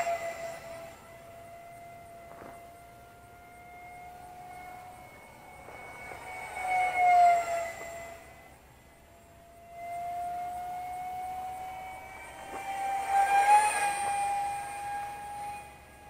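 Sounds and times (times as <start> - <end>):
electric ducted fan whining: 0.0 - 16.0
model jet passing by: 0.0 - 16.0.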